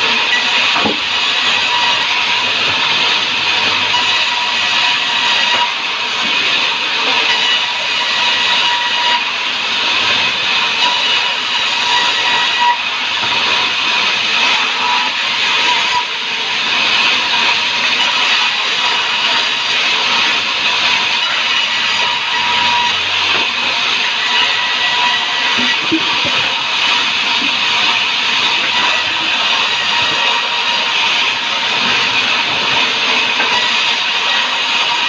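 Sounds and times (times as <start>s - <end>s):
band saw cutting wood: 0.0s - 35.0s.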